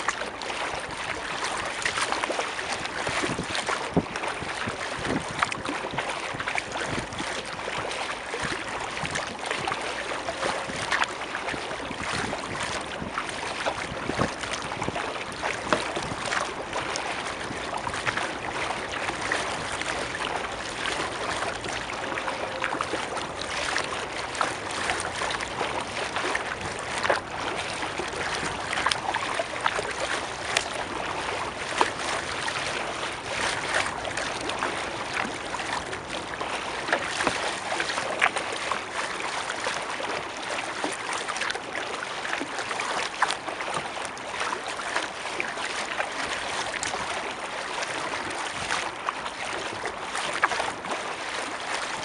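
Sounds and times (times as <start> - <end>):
water splashing against kayak: 0.0 - 52.0.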